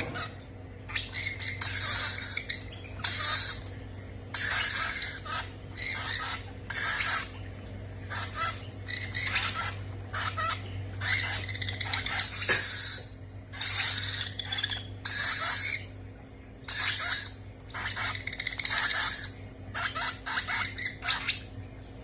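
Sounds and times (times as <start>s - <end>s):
parrot chicks begging calls: 0.0s - 22.0s.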